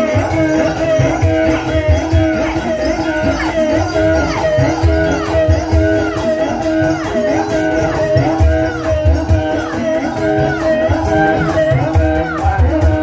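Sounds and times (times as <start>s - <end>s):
low drum beats: 0.0s - 13.0s.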